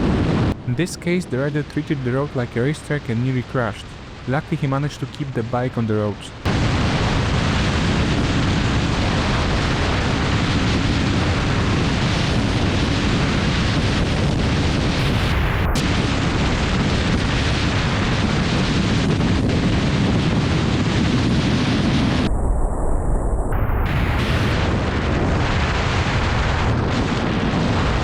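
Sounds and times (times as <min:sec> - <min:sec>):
wind buffeting microphone: 0:00.0 - 0:04.7, 0:06.4 - 0:28.0.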